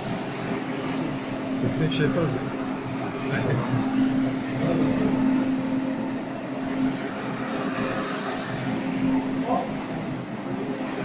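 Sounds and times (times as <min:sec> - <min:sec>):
carpet scrubber humming: 0:00.0 - 0:11.0.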